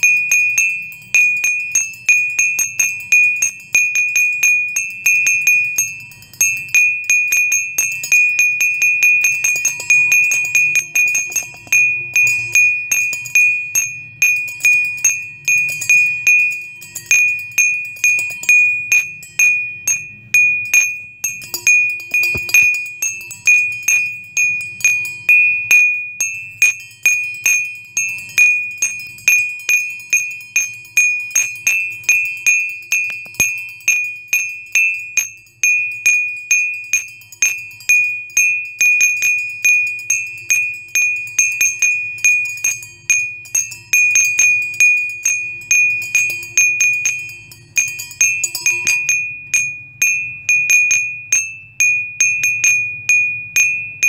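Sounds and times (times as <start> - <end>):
wind chimes ringing: 0.0 - 54.0.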